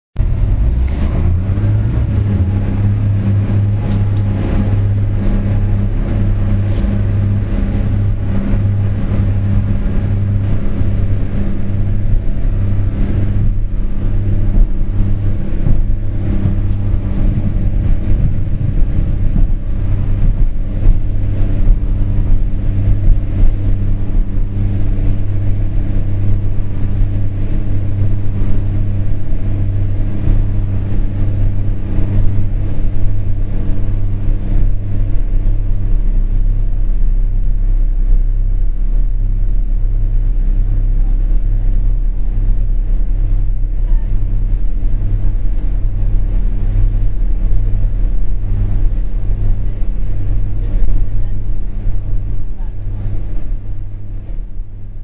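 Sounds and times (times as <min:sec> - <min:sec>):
train rumbling and humming: 0:00.2 - 0:55.0.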